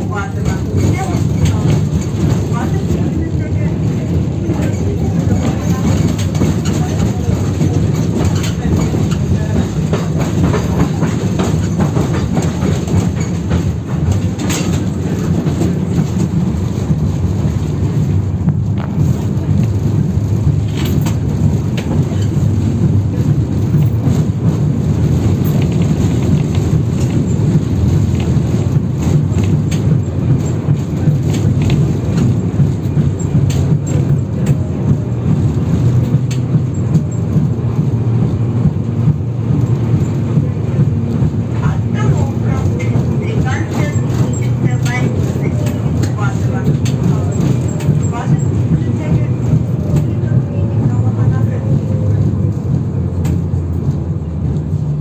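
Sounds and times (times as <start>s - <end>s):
tram knocking and clattering: 0.0s - 55.0s
tram wheels rumbling on rail: 0.0s - 55.0s.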